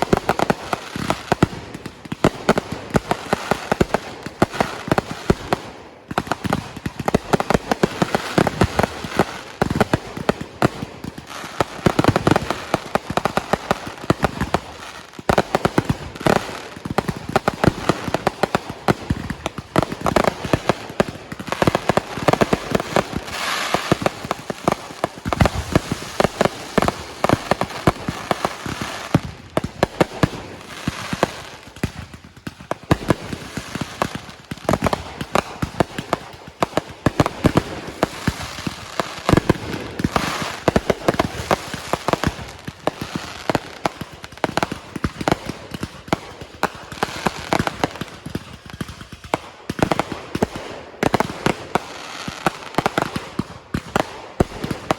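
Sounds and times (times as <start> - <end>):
fireworks barrage: 0.0 - 54.9.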